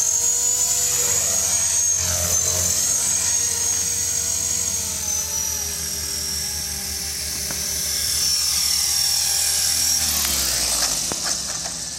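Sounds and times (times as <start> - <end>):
rc helicopter motor whine: 0.0 - 11.9.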